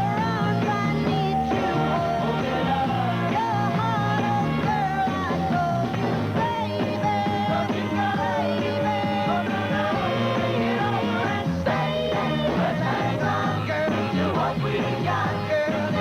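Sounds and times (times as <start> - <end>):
rock and roll record playing: 0.0 - 16.0.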